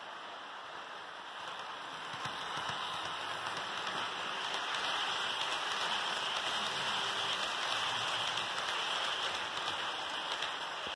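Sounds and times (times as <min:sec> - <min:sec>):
model train wheels rolling on rails: 0:00.0 - 0:10.9.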